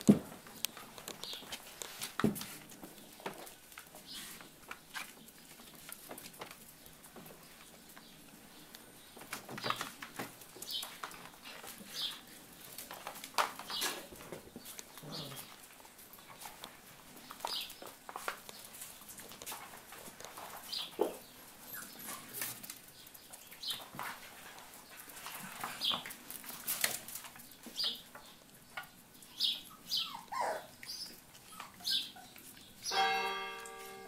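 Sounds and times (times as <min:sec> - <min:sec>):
paws pattering on brick paving: 0:00.0 - 0:33.0.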